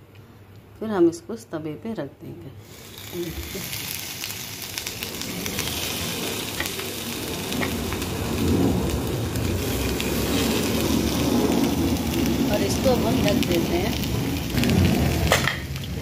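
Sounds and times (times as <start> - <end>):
tomatoes sizzling on hot pan: 2.6 - 16.0.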